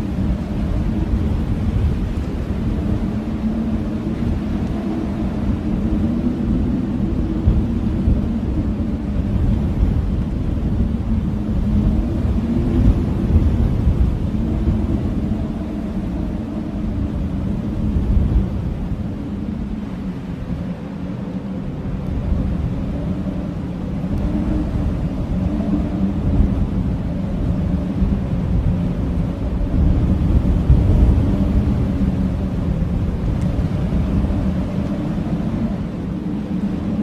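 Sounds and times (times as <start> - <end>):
blizzard wind rumbling: 0.0 - 37.0
faint howling wind: 0.0 - 37.0.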